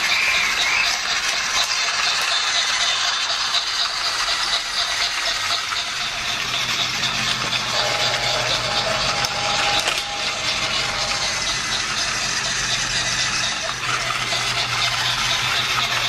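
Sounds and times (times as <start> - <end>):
toy train motor whirring: 0.0 - 16.0.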